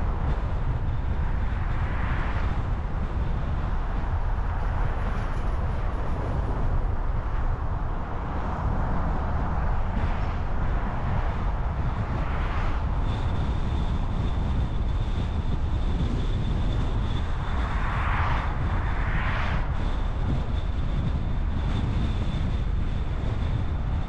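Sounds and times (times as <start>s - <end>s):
passing vehicles: 0.0s - 24.0s
road and traffic rumble: 0.0s - 24.0s.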